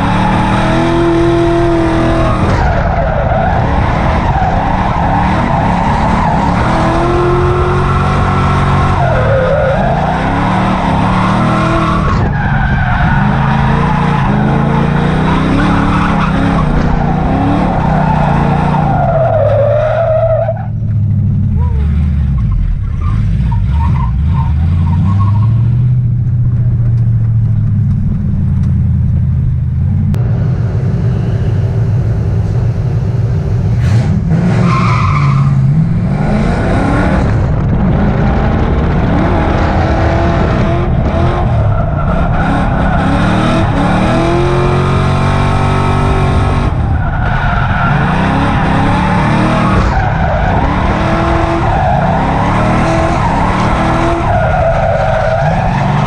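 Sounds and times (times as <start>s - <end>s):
car engine revving: 0.0s - 56.0s
road and wind noise: 0.0s - 56.0s.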